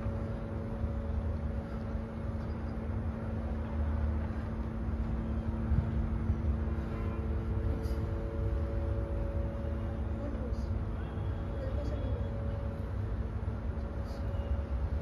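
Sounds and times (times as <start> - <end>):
constant hum: 0.0 - 15.0
low mechanical rumble: 0.0 - 15.0.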